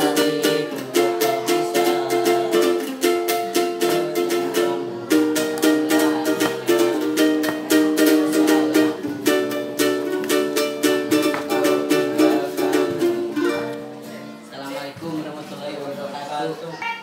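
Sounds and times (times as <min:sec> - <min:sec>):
ukulele strumming chords: 0:00.0 - 0:15.5.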